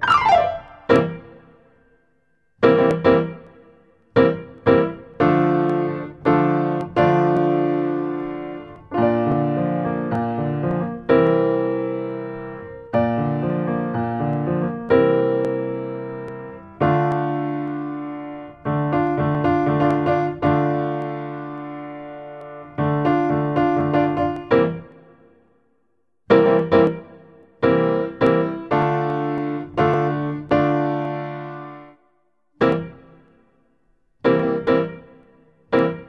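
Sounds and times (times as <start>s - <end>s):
solo piano chords: 0.0s - 25.4s, 26.3s - 33.5s, 34.2s - 36.0s.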